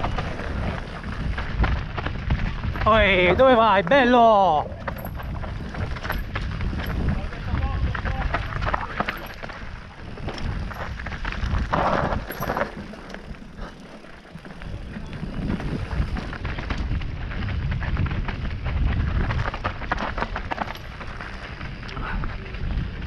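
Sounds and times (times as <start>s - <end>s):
bike rattling over stones: 0.0s - 23.0s
wind buffeting microphone: 0.0s - 23.0s.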